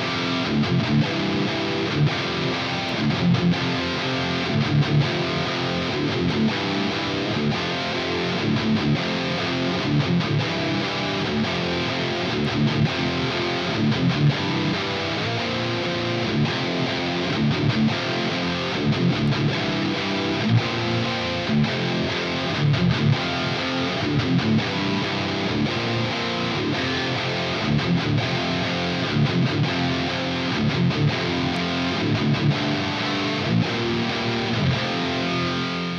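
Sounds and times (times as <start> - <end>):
electric guitar riffing: 0.0 - 35.9.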